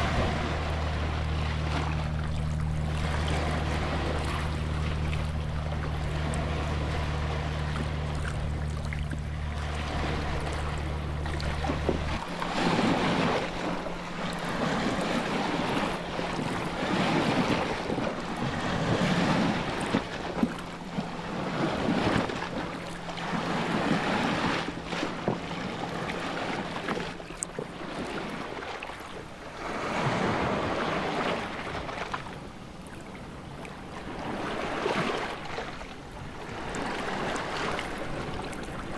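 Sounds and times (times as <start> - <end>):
steady low hum: 0.0 - 38.9
waves washing: 0.0 - 38.9.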